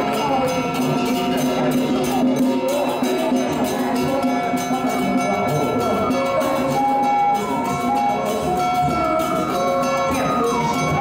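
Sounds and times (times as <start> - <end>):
melody over percussion beat: 0.0 - 11.0.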